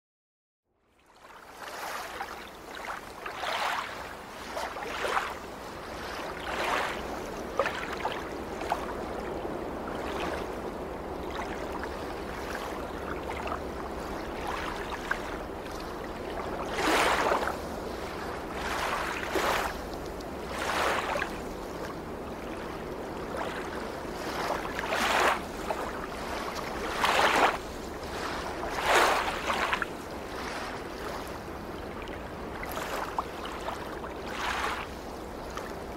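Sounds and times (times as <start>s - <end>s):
small waves lapping on rocks: 1.1s - 35.9s.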